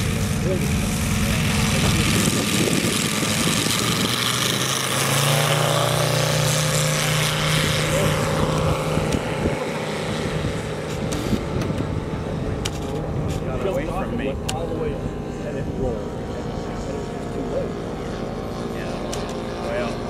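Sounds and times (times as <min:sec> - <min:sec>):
model airplane engine and propeller: 0:00.0 - 0:20.0.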